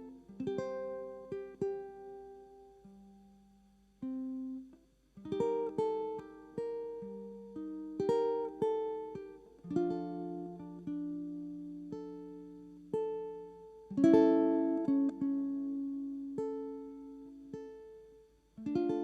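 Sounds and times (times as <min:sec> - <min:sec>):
ukulele plucked melody: 0:00.0 - 0:19.0.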